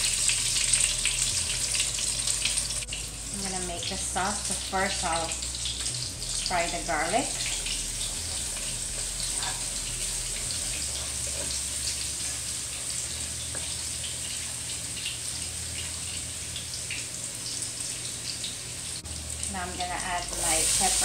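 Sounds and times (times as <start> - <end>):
garlic sizzling in oil: 0.0 - 21.0.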